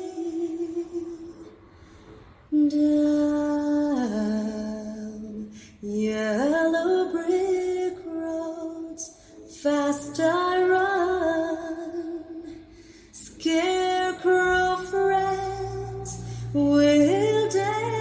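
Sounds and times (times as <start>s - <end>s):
woman singing with vibrato: 0.0s - 1.8s, 2.5s - 18.0s.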